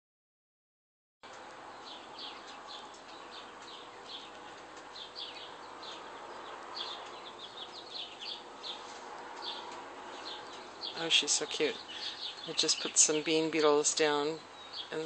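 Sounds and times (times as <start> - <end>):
birds chirping: 1.2 - 15.0.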